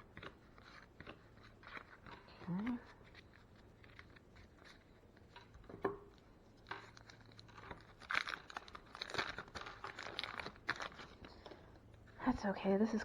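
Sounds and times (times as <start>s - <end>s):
wax paper wrapper crinkling: 0.0s - 13.0s.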